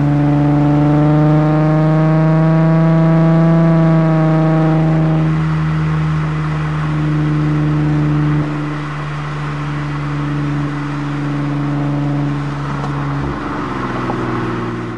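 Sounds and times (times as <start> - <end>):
car exhaust engine note: 0.0 - 14.9
road noise: 0.0 - 14.9.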